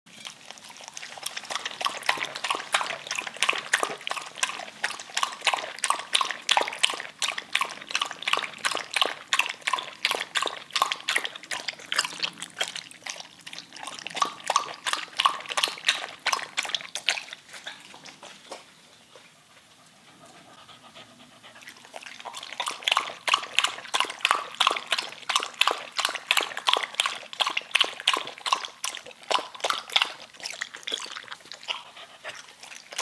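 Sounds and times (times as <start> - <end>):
dog lapping water: 0.1 - 18.8, 20.4 - 33.0.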